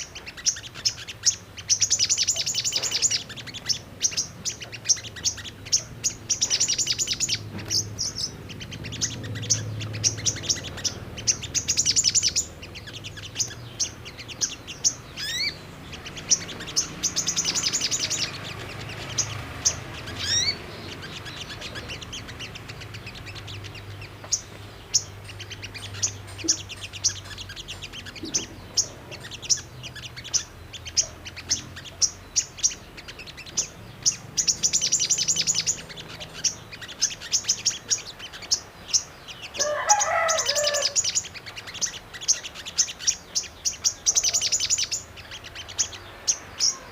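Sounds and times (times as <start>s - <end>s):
bird calling sharp chips and trills: 0.0s - 46.9s.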